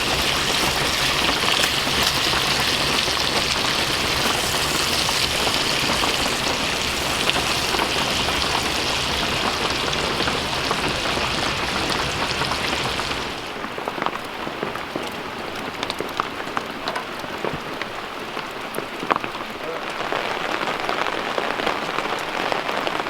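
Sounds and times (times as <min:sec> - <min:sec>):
patter of raindrops: 0:00.0 - 0:23.0
steady rain hissing: 0:00.0 - 0:23.0.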